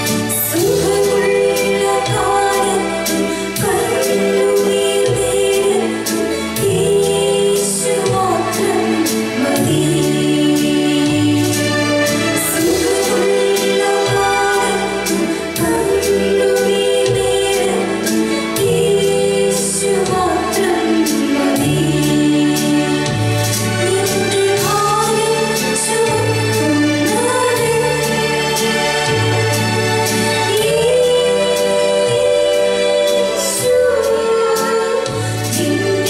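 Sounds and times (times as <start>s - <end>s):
instrumental accompaniment with beat: 0.0s - 36.0s
two women singing through microphones: 0.0s - 36.0s.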